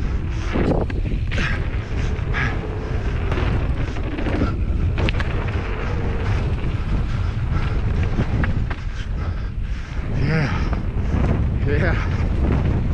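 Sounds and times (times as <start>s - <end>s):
bike rattling: 0.0s - 12.9s
tyres rumbling on dirt trail: 0.0s - 12.9s
wind buffeting microphone: 0.0s - 12.9s.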